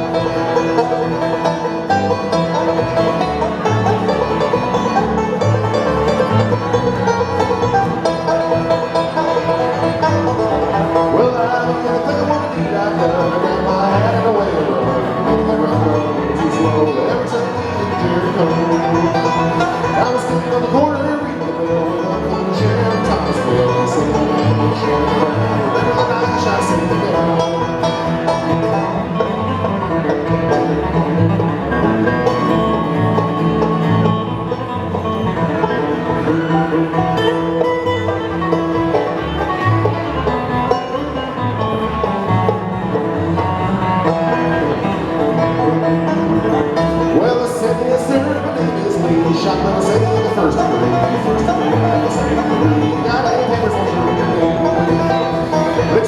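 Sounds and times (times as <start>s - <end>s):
banjo: 0.0s - 56.0s
bluegrass band playing: 0.0s - 56.0s.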